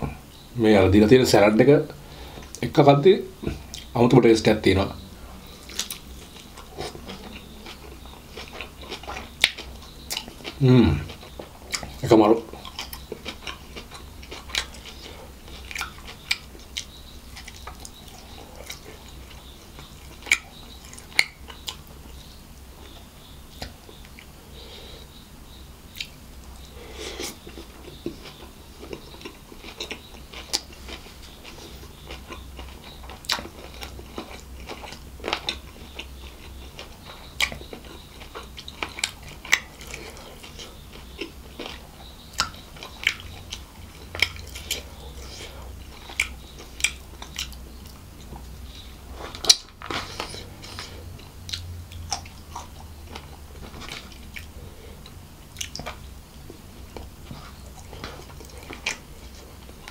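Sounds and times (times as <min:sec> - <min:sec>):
man chewing food: 0:03.3 - 0:59.9.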